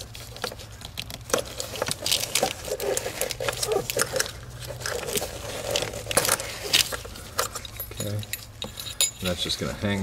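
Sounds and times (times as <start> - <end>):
hand tool clicks and scrapes: 0.3 - 9.4.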